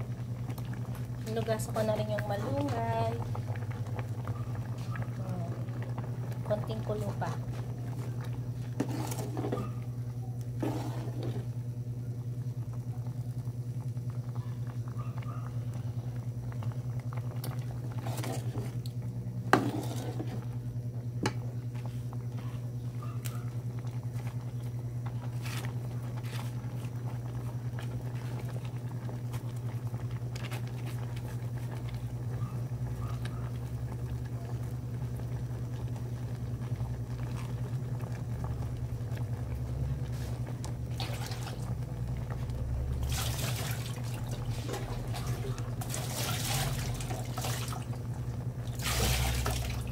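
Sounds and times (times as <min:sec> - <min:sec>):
soup bubbling in pot: 0:00.0 - 0:49.9
steady low hum: 0:00.0 - 0:49.9.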